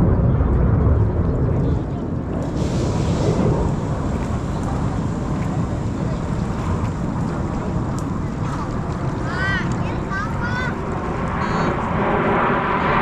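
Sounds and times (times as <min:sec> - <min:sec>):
jet rumble: 0:00.0 - 0:13.0.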